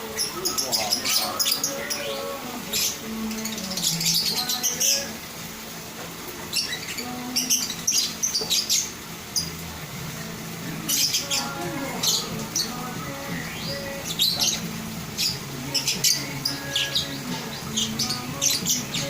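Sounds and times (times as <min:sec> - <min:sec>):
lovebirds shrill chatter: 0:00.0 - 0:05.6, 0:06.4 - 0:09.6, 0:10.7 - 0:19.0.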